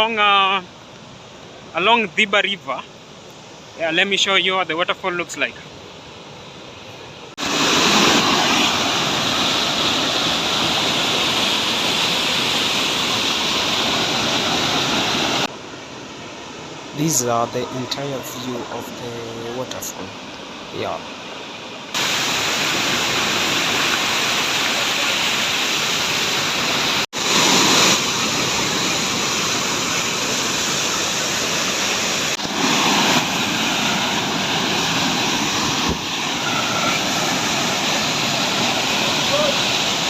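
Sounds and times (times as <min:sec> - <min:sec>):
waterfall rushing: 0:07.3 - 0:40.0.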